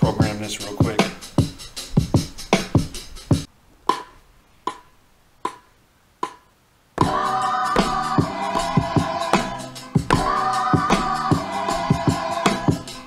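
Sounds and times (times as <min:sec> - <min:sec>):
programmed drum beat: 0:00.0 - 0:13.0.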